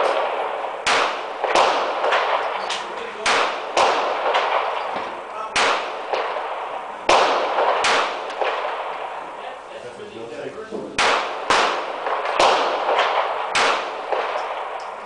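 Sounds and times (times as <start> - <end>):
faint gunshot cracks: 0.0 - 9.1, 11.0 - 14.8
handgun shots echoing: 0.0 - 9.2, 11.0 - 15.0.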